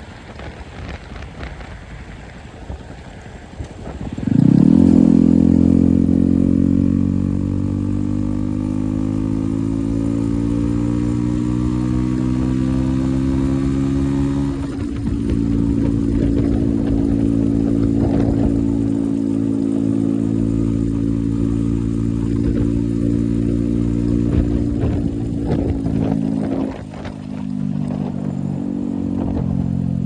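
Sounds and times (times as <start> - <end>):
wind noise: 0.0 - 30.0
motorcycle engine starting and idling: 3.1 - 30.0.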